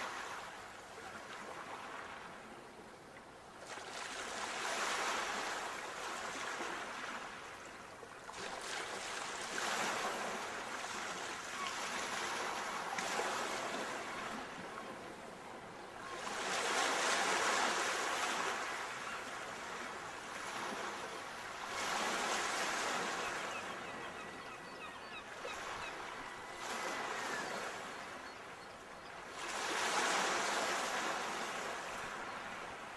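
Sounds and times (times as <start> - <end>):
waves washing onto shore: 0.0 - 28.5, 29.2 - 32.9.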